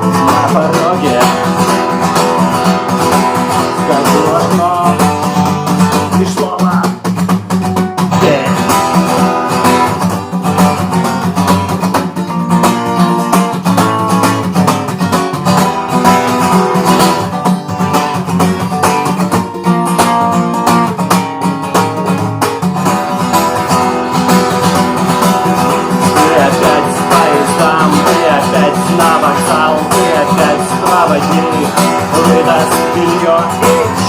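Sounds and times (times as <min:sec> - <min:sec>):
instrumental guitar music: 0:00.0 - 0:34.0.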